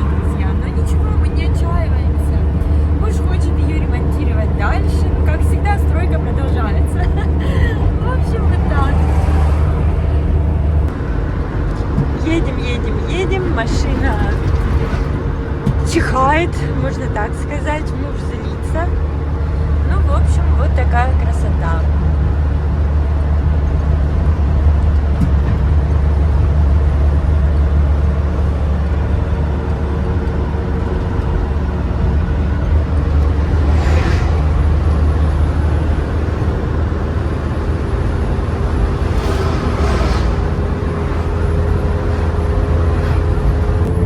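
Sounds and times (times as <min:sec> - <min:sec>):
rushing noise: 0:00.0 - 0:44.0
van engine and road drone: 0:00.0 - 0:44.0.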